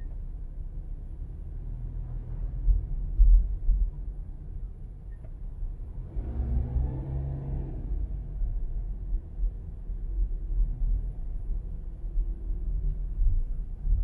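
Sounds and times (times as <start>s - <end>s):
car driving slowly: 0.0s - 14.0s.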